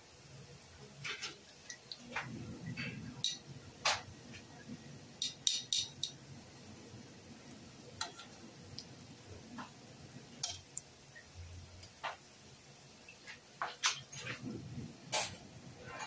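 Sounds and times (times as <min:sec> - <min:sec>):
deep-frying sizzle: 0:00.0 - 0:16.0
oil popping and crackling: 0:00.9 - 0:06.3, 0:07.4 - 0:15.2.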